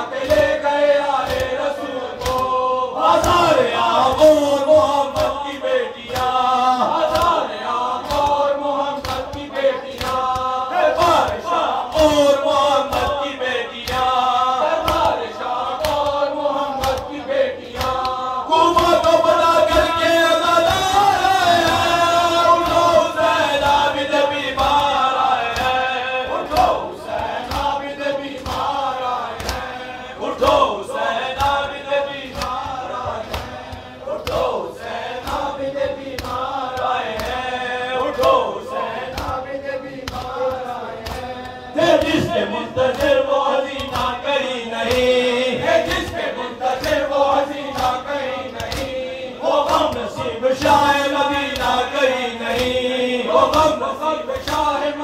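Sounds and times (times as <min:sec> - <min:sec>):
men chanting through a microphone: 0:00.0 - 0:55.0
hands slapping chests: 0:00.1 - 0:21.0, 0:21.6 - 0:29.8, 0:30.4 - 0:45.2, 0:45.8 - 0:54.8.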